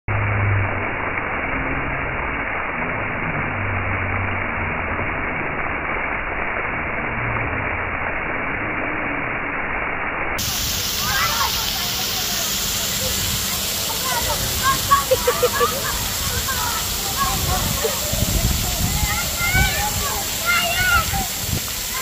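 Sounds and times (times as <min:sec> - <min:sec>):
fountain water jets hissing: 0:00.1 - 0:22.0.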